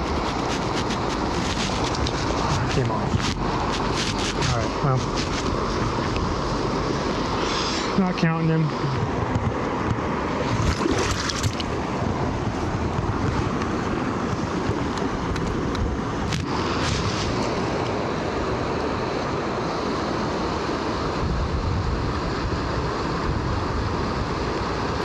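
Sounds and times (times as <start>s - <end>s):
wind buffeting microphone: 0.0s - 19.6s, 20.2s - 25.0s
river rushing over rocks: 0.0s - 25.0s.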